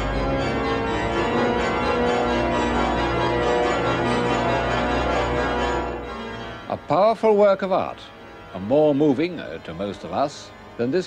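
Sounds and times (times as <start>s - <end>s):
slow sustained music chords: 0.0s - 11.0s.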